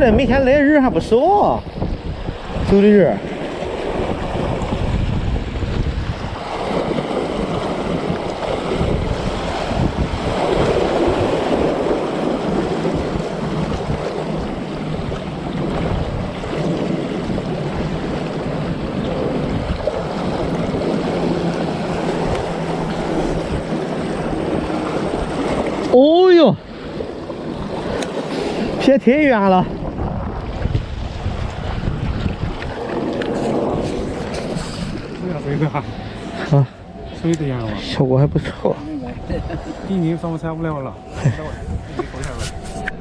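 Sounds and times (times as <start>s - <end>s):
sea waves washing on shore: 0.0s - 43.0s
strong wind buffeting microphone: 0.0s - 43.0s.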